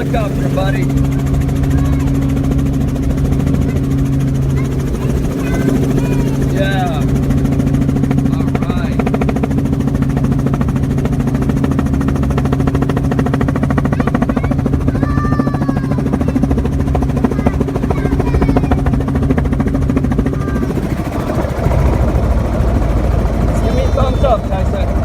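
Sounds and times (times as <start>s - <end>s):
helicopter blades chopping: 0.0s - 25.0s
helicopter engine drone: 0.0s - 25.0s.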